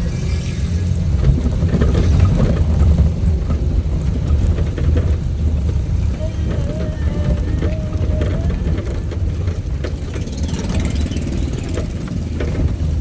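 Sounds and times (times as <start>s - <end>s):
vehicle engine and tyre rumble: 0.0s - 13.0s
small knocks and rattles: 1.1s - 13.0s.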